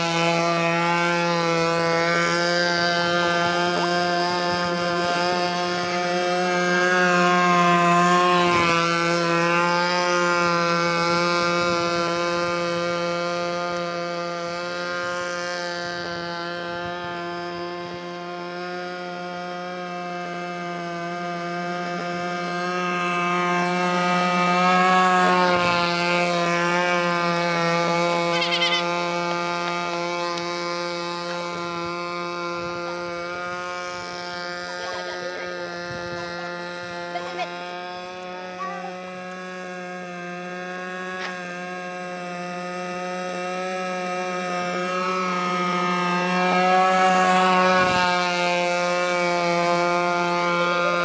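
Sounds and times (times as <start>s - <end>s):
high-pitched motor whine: 0.0s - 51.0s
model boat engine high pitch: 0.0s - 51.0s.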